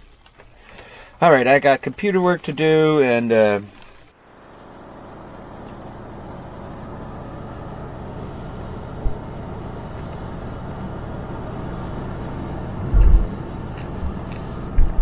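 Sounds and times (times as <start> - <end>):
road and engine noise: 0.0 - 15.0.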